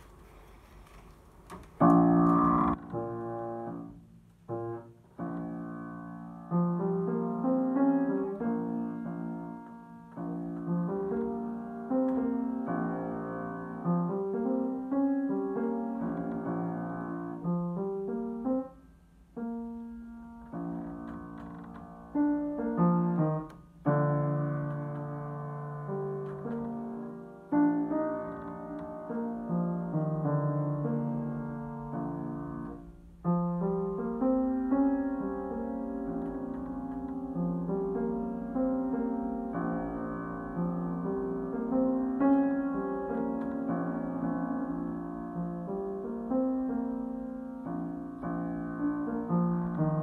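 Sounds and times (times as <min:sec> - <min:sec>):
upright piano slow blues: 0:00.0 - 0:50.0.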